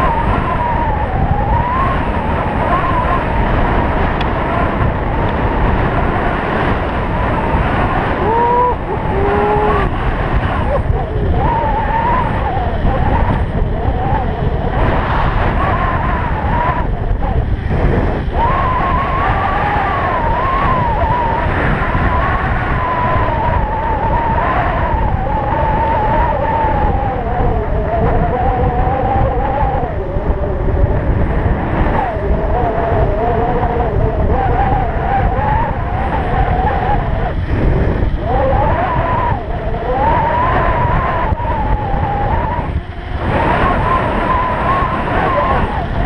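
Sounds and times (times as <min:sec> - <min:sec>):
electric bike motor whine: 0:00.0 - 0:46.0
wind rumble on microphone: 0:00.0 - 0:46.0.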